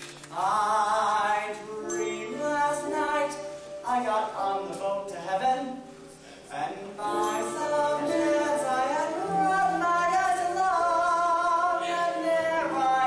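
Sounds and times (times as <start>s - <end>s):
person singing show tune: 0.3s - 13.0s.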